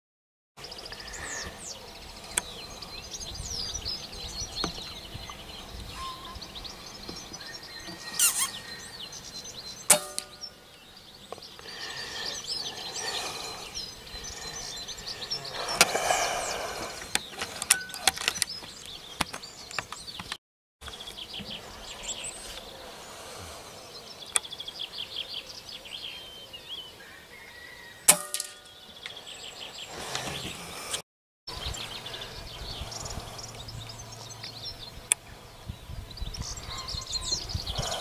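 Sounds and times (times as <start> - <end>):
small birds singing: 0.6 - 38.0.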